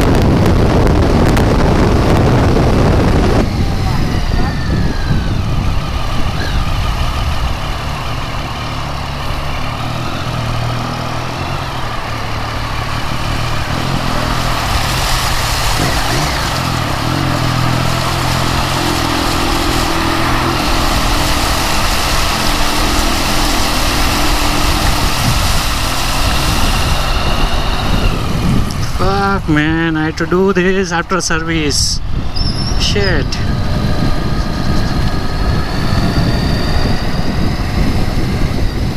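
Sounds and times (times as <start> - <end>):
air rushing over microphone: 0.0 - 38.9
motorcycle engine running: 0.0 - 38.9.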